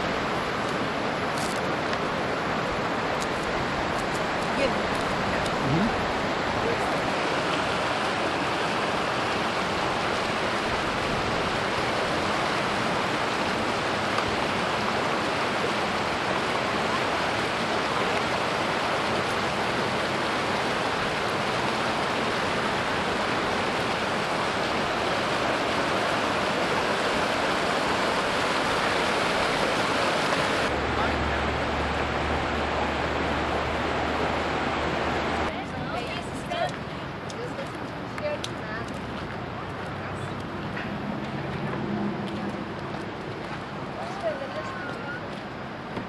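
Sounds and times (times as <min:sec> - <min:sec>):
river water rushing over rocks: 0:00.0 - 0:46.0.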